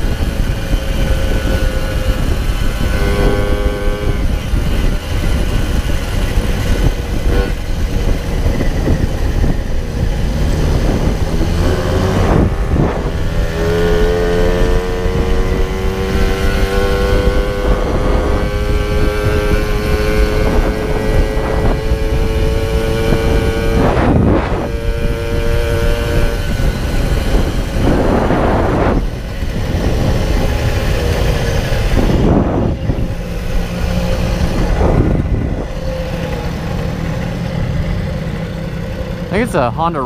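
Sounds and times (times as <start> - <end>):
moped engine whine: 0.0 - 40.0
wind rushing over microphone: 0.0 - 40.0.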